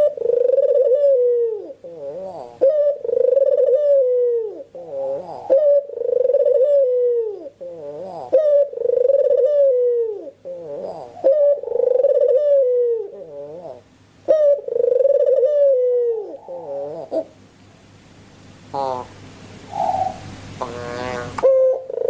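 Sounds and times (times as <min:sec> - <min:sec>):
dove cooing: 0:00.0 - 0:17.4, 0:18.7 - 0:22.0.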